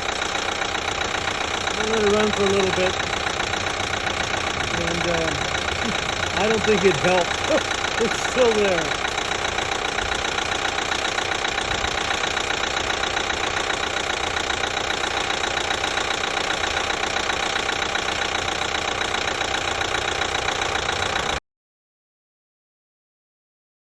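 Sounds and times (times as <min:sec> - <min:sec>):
car engine running: 0:00.0 - 0:21.4
fast even engine tapping: 0:00.0 - 0:21.4.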